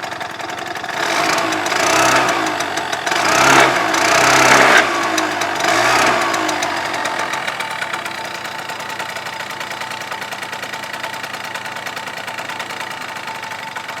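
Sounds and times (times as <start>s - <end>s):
scooter engine revving and idling: 0.0s - 14.0s.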